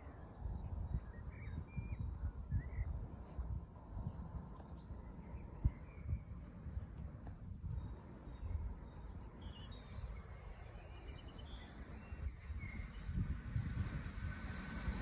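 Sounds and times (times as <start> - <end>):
small birds chirping: 0.0 - 13.7
steady low rumble: 0.3 - 15.0.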